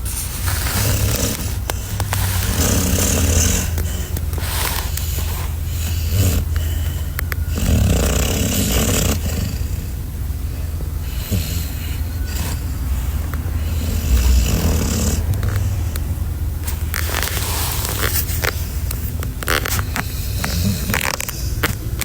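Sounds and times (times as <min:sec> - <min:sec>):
puppy snoring: 0:00.0 - 0:22.0
steady low hum: 0:00.0 - 0:22.0.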